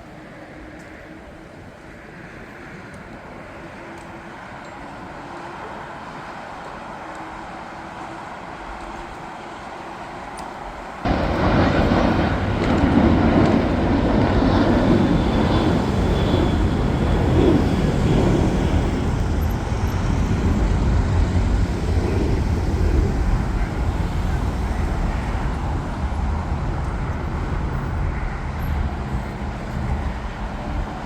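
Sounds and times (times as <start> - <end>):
jet engines rushing: 0.0 - 31.0.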